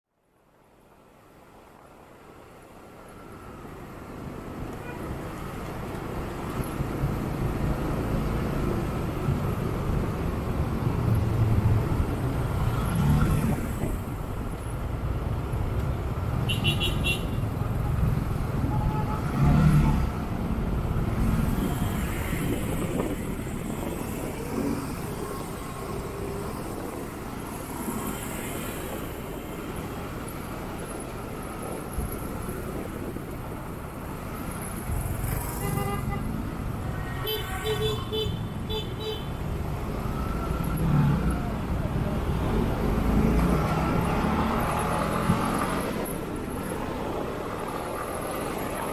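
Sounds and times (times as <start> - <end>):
surrounding traffic: 0.1 - 48.9.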